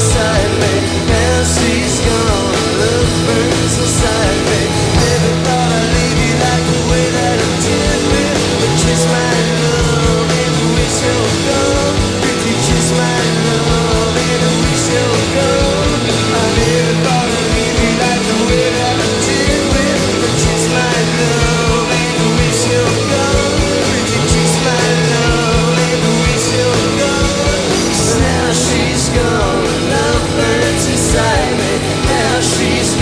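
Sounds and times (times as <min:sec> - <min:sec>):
bass line: 0:00.0 - 0:33.0
distorted electric guitars: 0:00.0 - 0:33.0
drums and cymbal crashes: 0:00.0 - 0:33.0.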